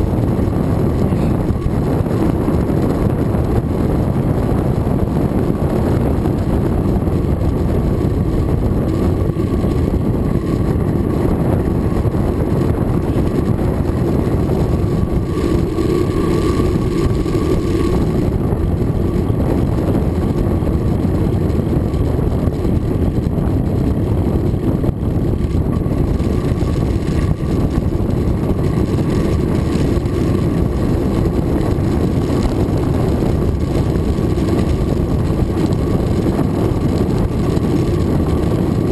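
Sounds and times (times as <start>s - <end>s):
tyres rolling on asphalt: 0.0s - 38.9s
wind buffeting microphone: 0.0s - 38.9s.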